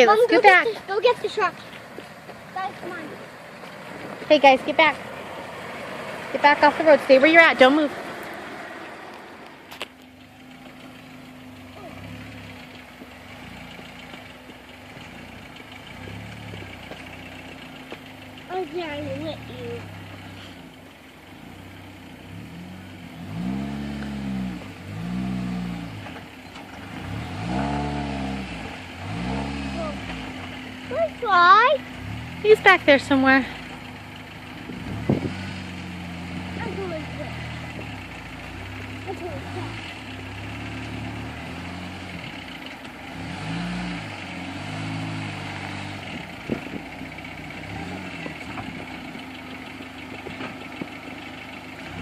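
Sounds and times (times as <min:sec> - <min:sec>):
off-road vehicle engine revving: 0:00.0 - 0:52.0.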